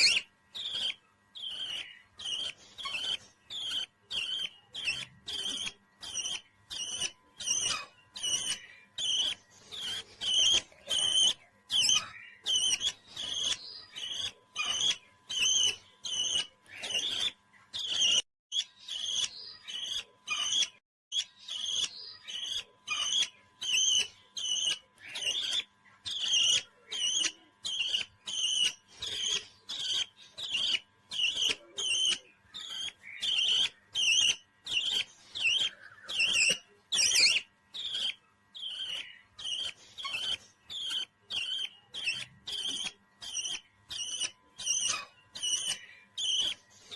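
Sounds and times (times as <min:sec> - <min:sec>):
parrot chirping: 0:00.0 - 0:46.9.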